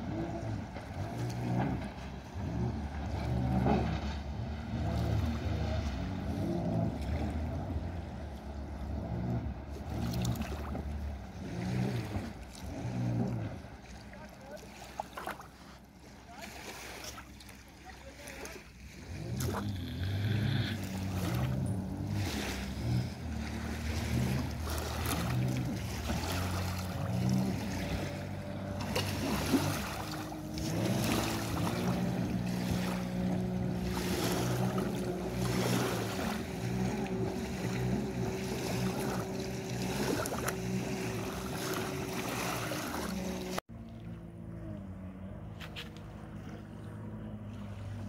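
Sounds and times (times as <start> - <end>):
jet ski engines revving: 0.0 - 48.0.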